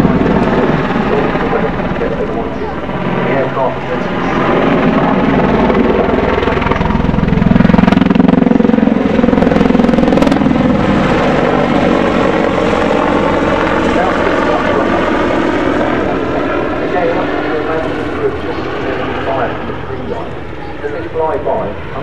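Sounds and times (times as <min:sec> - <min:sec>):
helicopter rotor and engines: 0:00.0 - 0:22.0.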